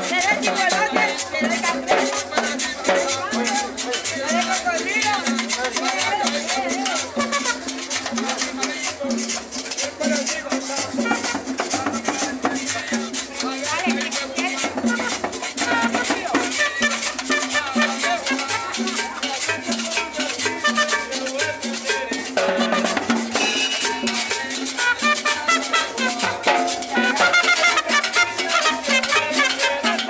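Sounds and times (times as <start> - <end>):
latin dance band playing: 0.0 - 30.0.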